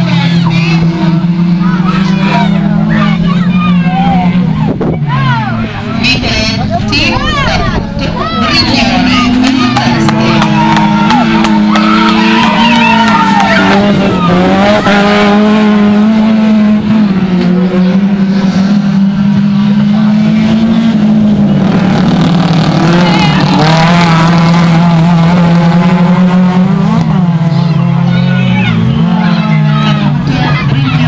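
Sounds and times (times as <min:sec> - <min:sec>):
race car engines revving hard: 0:00.0 - 0:31.0.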